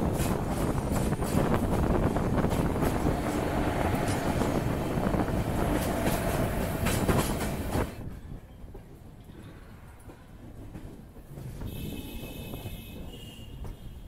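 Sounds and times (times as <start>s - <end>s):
rail clicks and clatter: 0.0s - 14.0s
train wheels rumbling on track: 0.0s - 14.0s.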